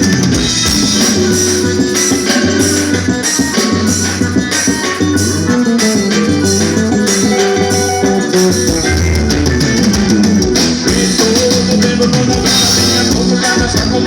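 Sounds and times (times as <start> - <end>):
accordion melody: 0.0 - 14.0
band playing dance music: 0.0 - 14.0.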